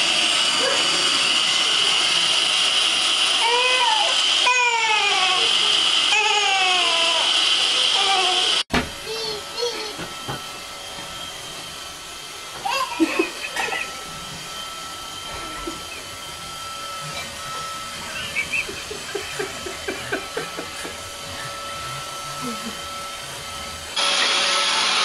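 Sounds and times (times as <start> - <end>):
robot vacuum whirring and whining: 0.0 - 25.0.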